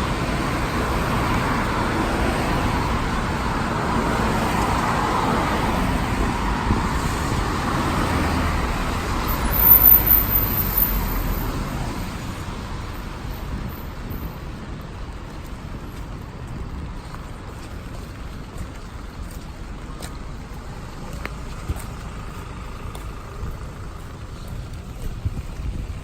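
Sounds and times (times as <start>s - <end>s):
tyres hissing on wet road: 0.0s - 26.0s
vehicle engine rumble: 0.0s - 26.0s.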